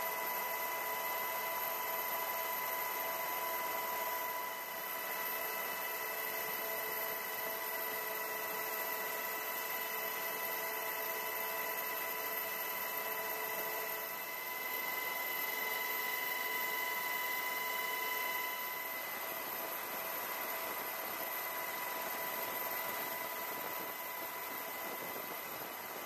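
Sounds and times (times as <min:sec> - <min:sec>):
constant high whine: 0:00.0 - 0:26.0.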